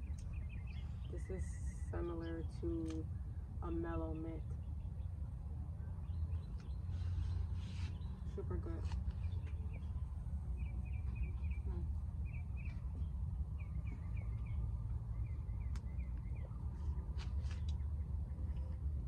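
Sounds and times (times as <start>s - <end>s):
bird chirping: 0.0s - 2.8s, 4.0s - 19.0s
steady low rumble: 0.0s - 19.0s.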